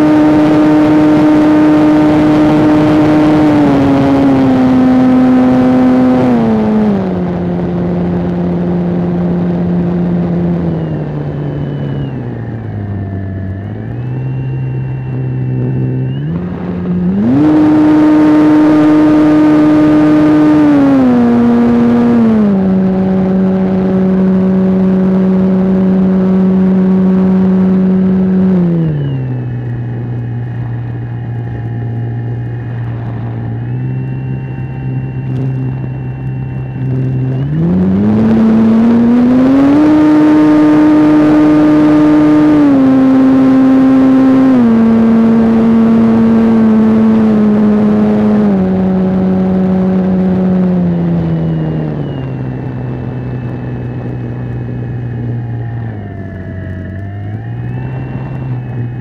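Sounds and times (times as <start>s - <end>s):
model airplane engine and propeller: 0.0s - 59.0s.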